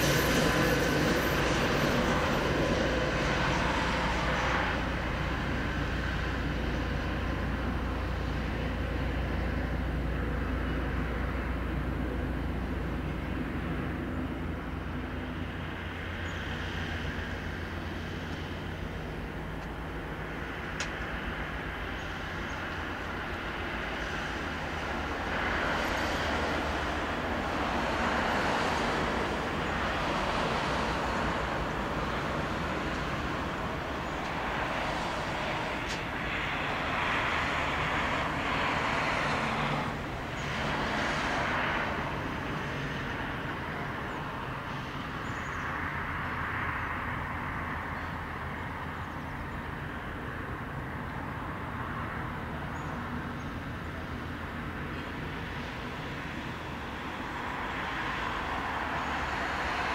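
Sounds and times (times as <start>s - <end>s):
distant train rolling: 0.0s - 59.9s.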